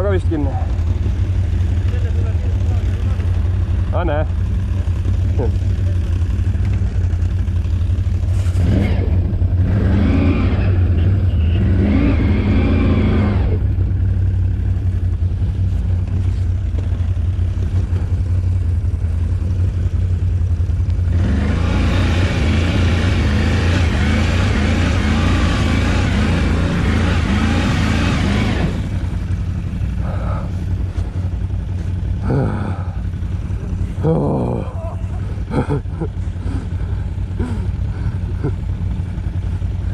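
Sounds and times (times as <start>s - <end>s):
quad engine revving: 0.0s - 14.1s, 21.0s - 39.9s.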